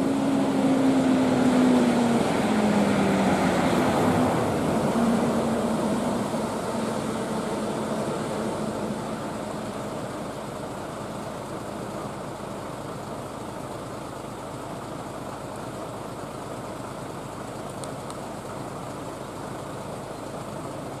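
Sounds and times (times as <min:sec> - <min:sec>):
diesel truck engines idling: 0:00.0 - 0:21.0.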